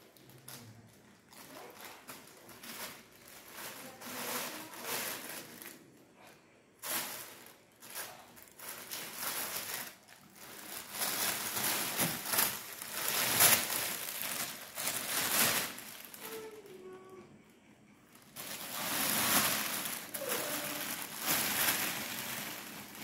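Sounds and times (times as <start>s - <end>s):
plastic bag crinkling: 0.0s - 17.0s, 18.1s - 23.0s.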